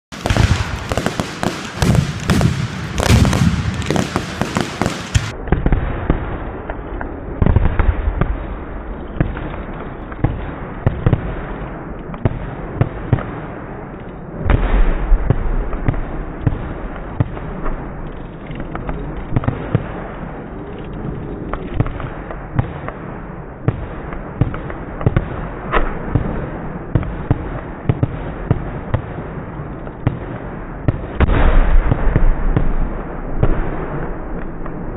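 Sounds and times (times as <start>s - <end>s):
heavy firework booms: 0.1s - 6.7s, 7.3s - 13.8s, 14.4s - 17.9s, 21.8s - 34.9s
fireworks popping and banging: 0.1s - 34.9s.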